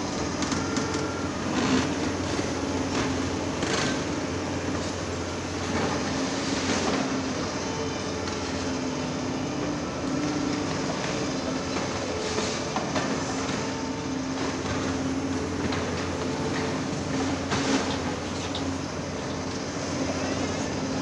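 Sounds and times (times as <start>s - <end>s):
diesel engine droning: 0.0s - 21.0s
heavy machine noise: 0.0s - 21.0s.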